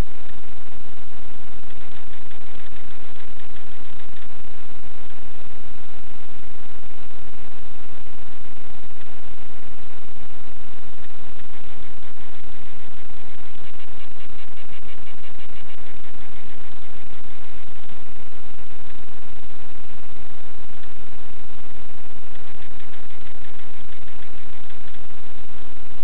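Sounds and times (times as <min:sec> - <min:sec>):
buzzing static: 0:00.0 - 0:26.0.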